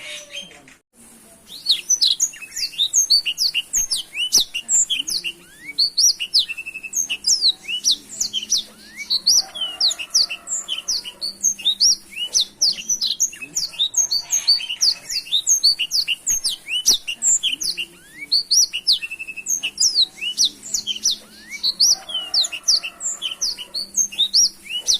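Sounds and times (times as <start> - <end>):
canary singing chirps and trills: 0.0 - 0.8, 1.4 - 24.9.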